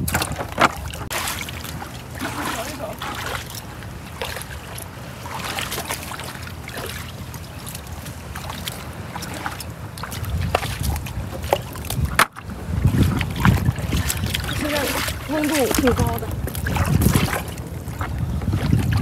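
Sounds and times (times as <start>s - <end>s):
splashes of wading in water: 0.0s - 19.0s
wind rumbling on microphone: 0.0s - 19.0s.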